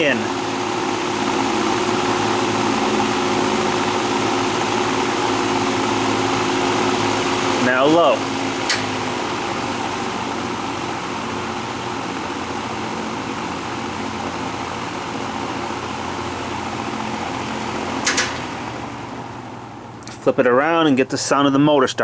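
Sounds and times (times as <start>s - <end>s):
box fan running: 0.0s - 22.0s.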